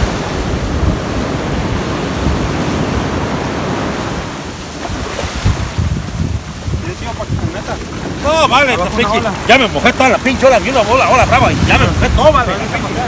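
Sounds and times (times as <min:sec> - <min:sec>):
ocean surf washing ashore: 0:00.0 - 0:13.0
wind rumbling on microphone: 0:00.0 - 0:13.0.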